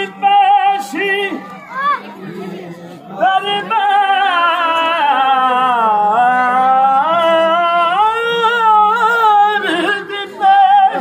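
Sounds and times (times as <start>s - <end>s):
man singing unaccompanied lament: 0.0s - 1.5s, 3.0s - 11.0s.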